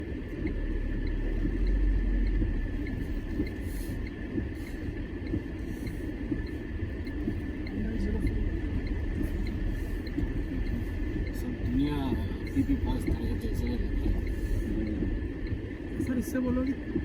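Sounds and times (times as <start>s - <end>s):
faint even ticking: 0.0s - 17.0s.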